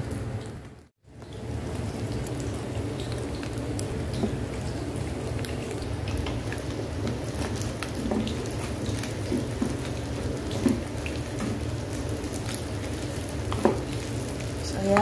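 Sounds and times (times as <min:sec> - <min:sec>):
rice sizzling in wok: 0:01.1 - 0:15.0.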